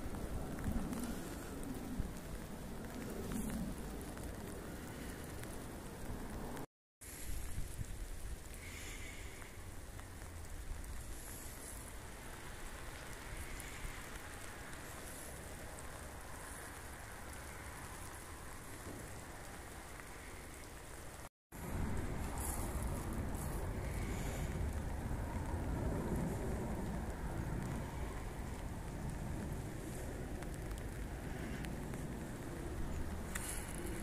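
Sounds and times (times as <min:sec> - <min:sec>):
steady rain hiss: 0:00.0 - 0:34.0
wind rumble on microphone: 0:00.0 - 0:34.0.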